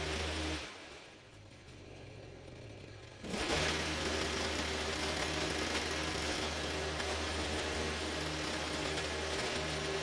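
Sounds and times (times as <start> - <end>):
small petrol engine idling: 0.0 - 10.0.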